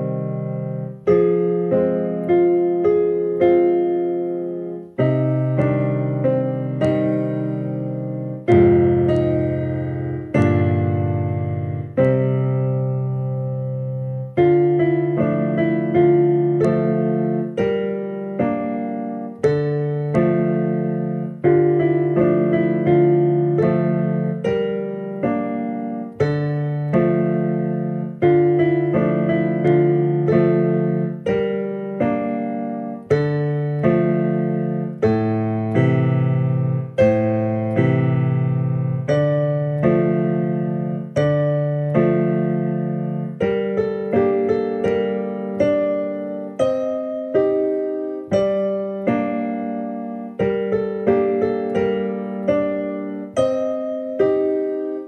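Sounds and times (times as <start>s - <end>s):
slow piano piece: 0.0s - 55.0s.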